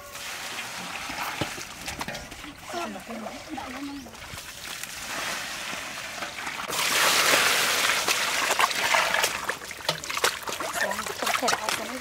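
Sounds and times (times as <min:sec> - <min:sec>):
water pouring into metal basin: 0:00.0 - 0:12.0.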